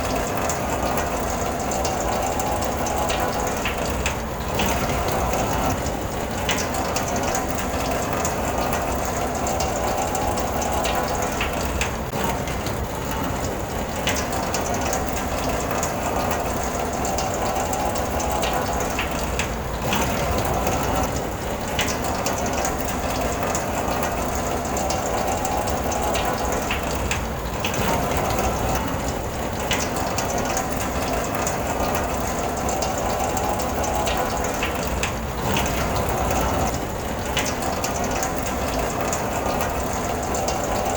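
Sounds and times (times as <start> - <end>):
rain on a car roof: 0.0 - 40.9.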